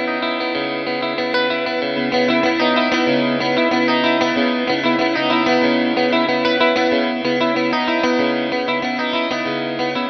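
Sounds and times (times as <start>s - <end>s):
distorted electric guitar: 0.0s - 10.0s.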